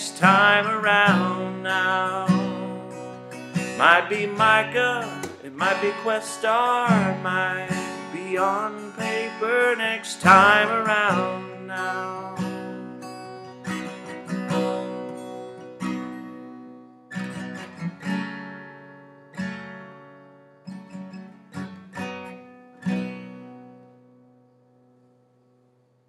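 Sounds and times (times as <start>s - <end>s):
acoustic guitar chords: 0.0s - 26.0s.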